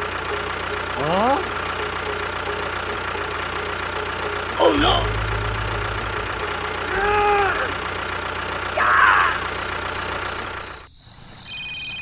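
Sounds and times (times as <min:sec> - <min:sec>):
small engine running: 0:00.0 - 0:10.8.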